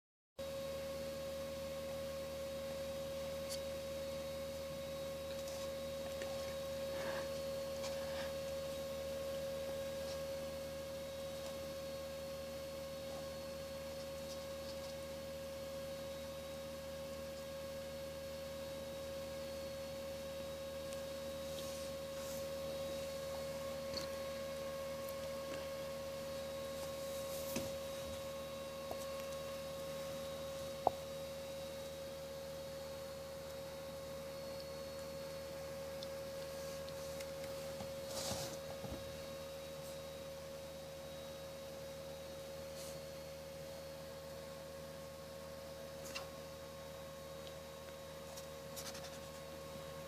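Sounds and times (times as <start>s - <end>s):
steady high-pitched hum: 0.4s - 50.0s.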